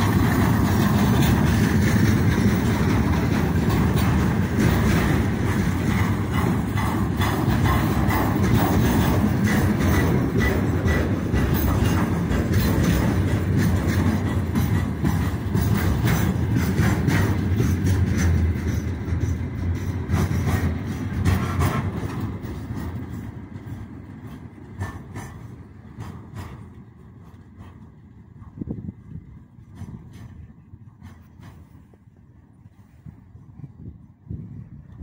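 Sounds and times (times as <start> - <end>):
freight wagons rumbling past: 0.0 - 32.2
wheels clicking over rail joints: 0.0 - 32.2.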